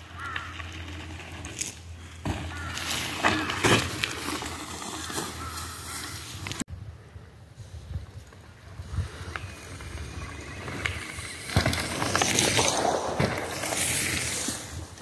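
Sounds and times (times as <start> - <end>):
bike tyres rolling over dirt: 0.0 - 6.6, 7.5 - 15.0.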